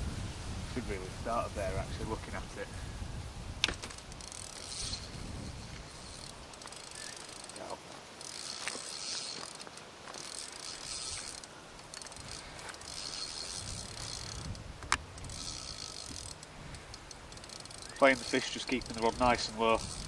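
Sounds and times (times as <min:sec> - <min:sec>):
fishing reel whirring and ticking: 0:03.8 - 0:20.0.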